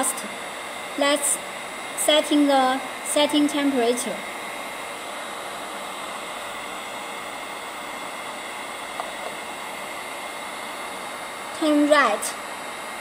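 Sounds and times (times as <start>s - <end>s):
blower airflow hiss: 0.0s - 13.0s.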